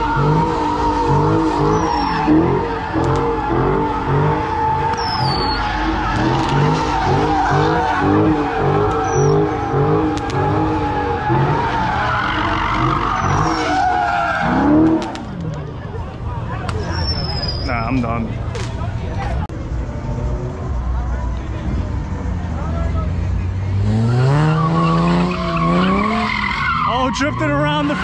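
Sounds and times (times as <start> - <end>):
car engine revving: 0.0 - 16.9, 19.2 - 28.0
tires squealing: 0.0 - 28.0.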